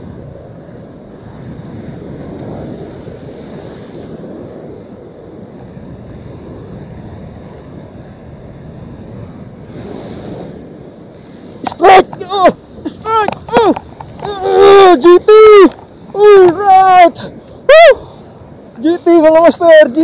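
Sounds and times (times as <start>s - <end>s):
wind buffeting microphone: 0.0s - 20.0s
surf breaking over rocks: 1.3s - 20.0s.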